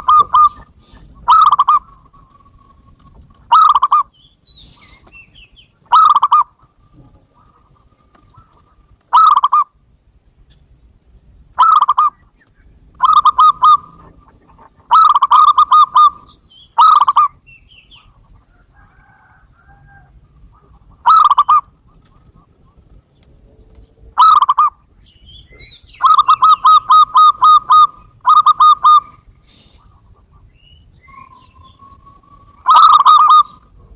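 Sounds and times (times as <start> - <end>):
dove cooing: 0.0 - 5.3, 5.9 - 9.8, 11.6 - 12.2, 12.9 - 23.0, 23.6 - 24.8, 25.5 - 33.9.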